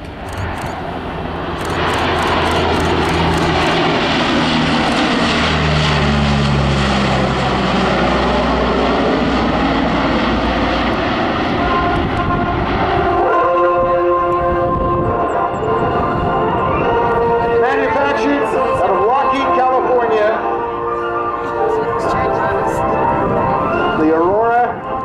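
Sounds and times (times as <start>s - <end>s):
turboprop aircraft drone: 0.0s - 25.0s.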